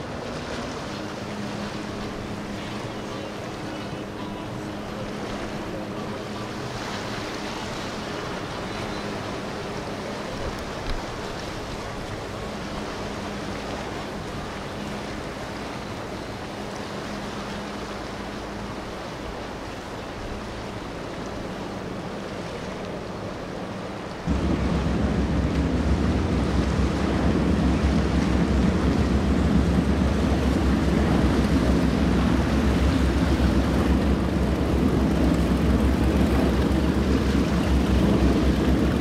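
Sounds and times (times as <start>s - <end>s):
low engine drone: 0.0s - 39.0s
water rushing from bow wave: 0.0s - 39.0s.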